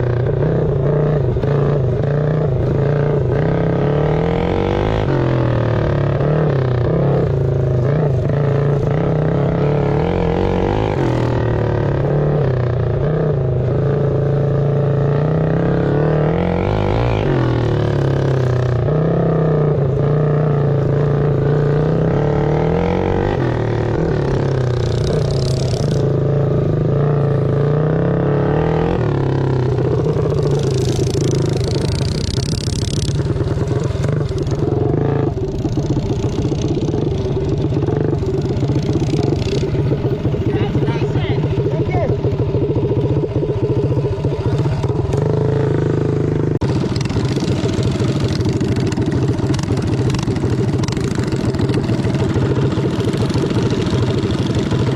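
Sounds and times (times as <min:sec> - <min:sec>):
mini bike engines revving: 0:00.0 - 0:54.9.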